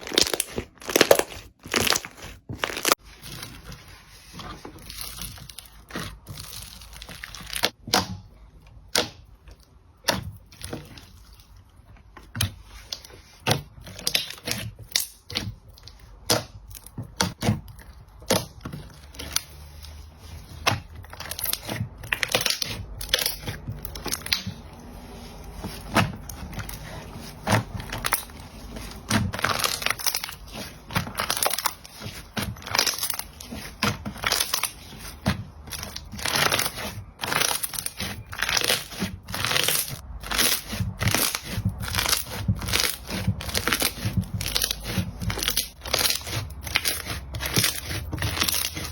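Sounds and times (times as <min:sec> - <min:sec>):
slime squishing with pops: 0:00.0 - 0:03.7, 0:04.8 - 0:48.9.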